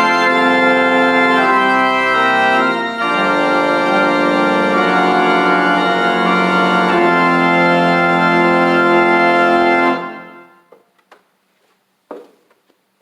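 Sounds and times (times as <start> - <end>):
church organ chords: 0.0 - 10.7.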